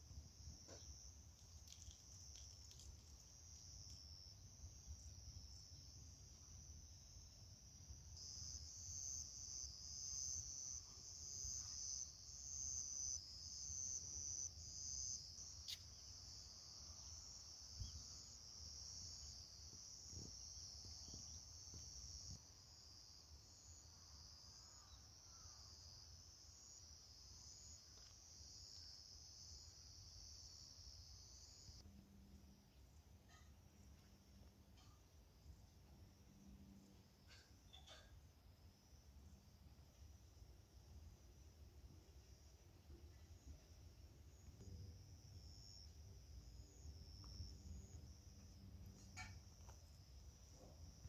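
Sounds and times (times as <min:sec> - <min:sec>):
crickets trilling: 0:00.0 - 0:51.0.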